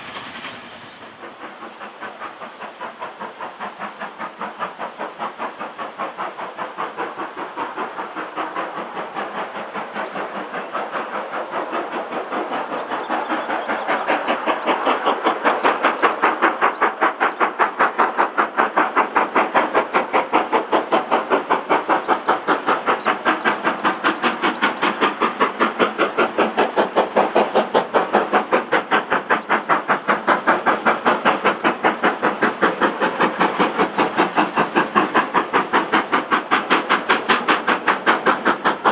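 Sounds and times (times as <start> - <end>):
steam locomotive exhaust beating: 0.0 - 38.9.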